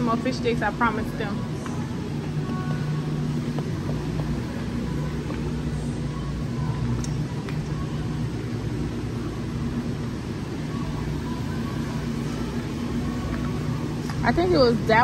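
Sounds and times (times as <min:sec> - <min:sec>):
store rumble and hum: 0:00.0 - 0:15.0.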